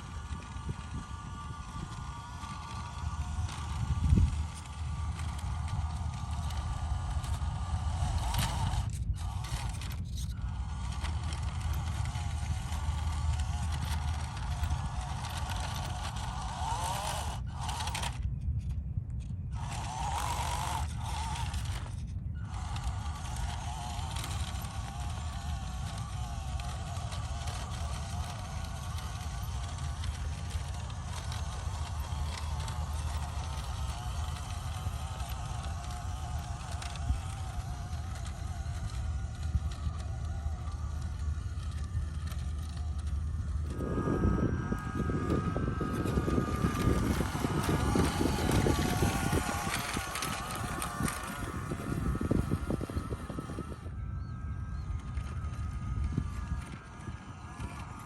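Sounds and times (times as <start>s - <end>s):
electric motor and gearbox whining: 0.0s - 58.0s.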